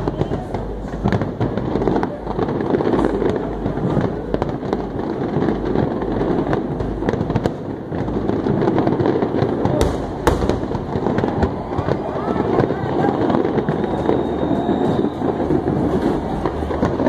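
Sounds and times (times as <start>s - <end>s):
fireworks bursting and crackling: 0.0s - 17.0s
sharp firework bangs: 0.0s - 17.0s.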